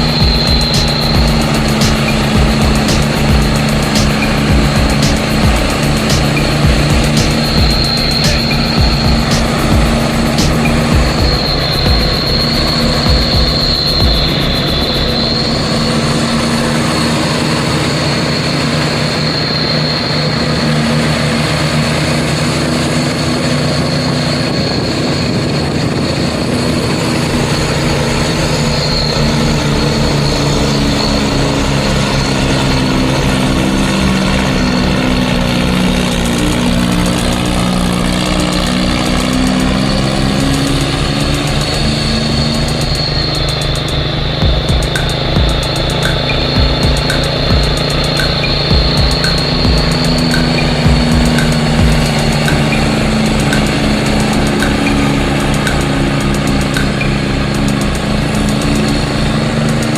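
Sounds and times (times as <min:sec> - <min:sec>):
steady high whine: 0:00.0 - 0:59.9
truck engine running: 0:00.0 - 0:59.9.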